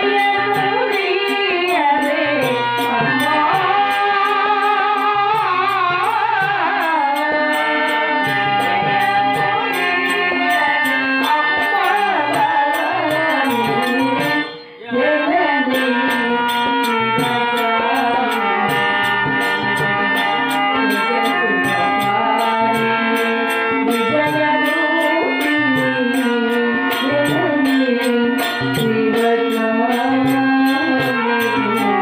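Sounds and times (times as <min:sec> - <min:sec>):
steady percussion beat: 0:00.0 - 0:14.5, 0:15.9 - 0:32.0
harmonium: 0:00.0 - 0:32.0
woman singing: 0:00.0 - 0:32.0.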